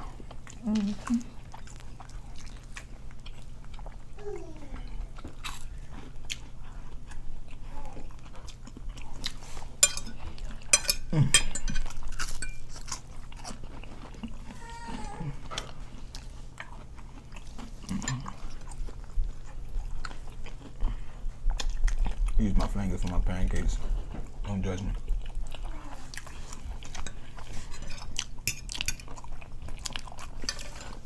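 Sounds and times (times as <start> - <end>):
chewing and smacking food: 0.0 - 31.0.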